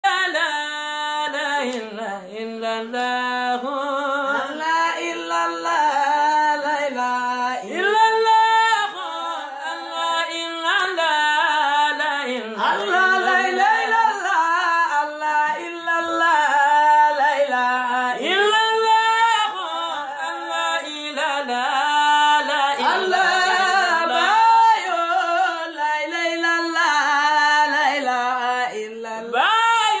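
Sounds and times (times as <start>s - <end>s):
man and woman singing unaccompanied: 0.0s - 30.0s.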